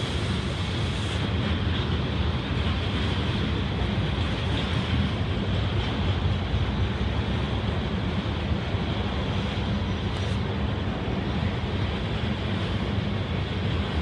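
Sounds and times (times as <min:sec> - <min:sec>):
steel wheels on rail: 0:00.0 - 0:14.0.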